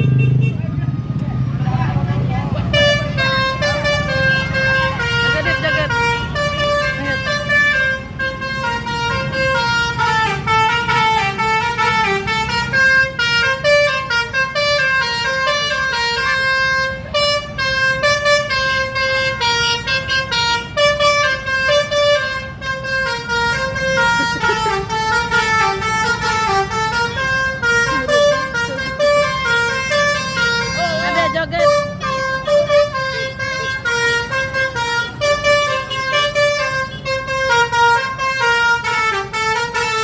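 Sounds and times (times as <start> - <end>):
musical bus horn melody: 0.0 - 0.7, 2.5 - 40.0.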